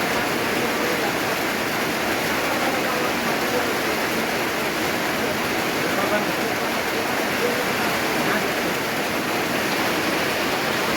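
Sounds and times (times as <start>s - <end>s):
heavy rain on a tin roof: 0.0s - 10.9s.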